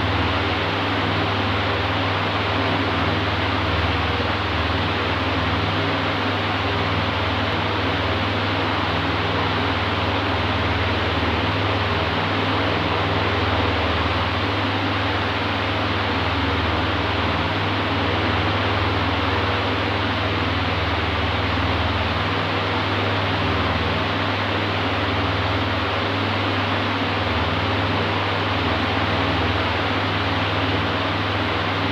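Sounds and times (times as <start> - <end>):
electric fan air rush: 0.0 - 31.9
fan motor hum: 0.0 - 31.9.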